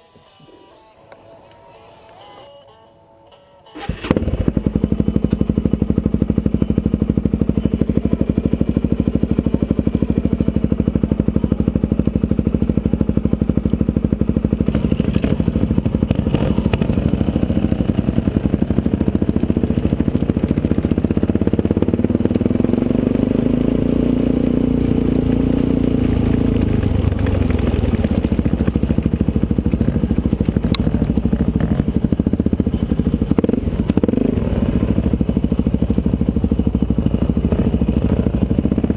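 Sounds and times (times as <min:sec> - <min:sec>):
motorcycle engine running: 0:03.7 - 0:38.9.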